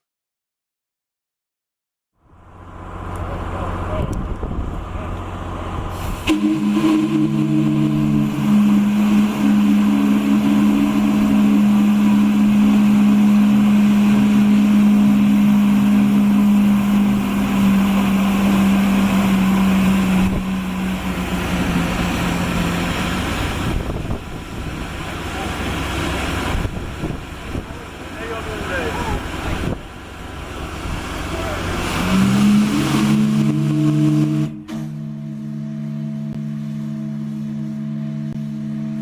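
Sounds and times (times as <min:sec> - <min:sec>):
wind: 0:02.2 - 0:39.0
water noise: 0:02.5 - 0:39.0
deep steam whistle blast: 0:05.9 - 0:27.7, 0:28.4 - 0:39.0.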